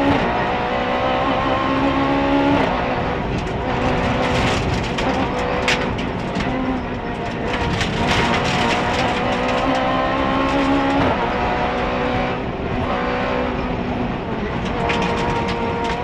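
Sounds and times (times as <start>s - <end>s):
rally car engine revving: 0.0s - 16.0s
tyre and road noise: 0.0s - 16.0s.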